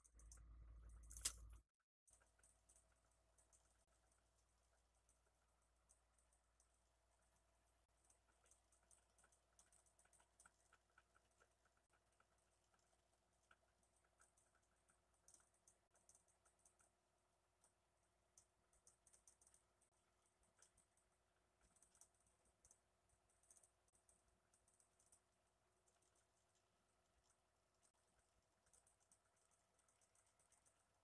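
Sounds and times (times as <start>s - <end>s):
faint irregular clicking: 0.0s - 31.0s.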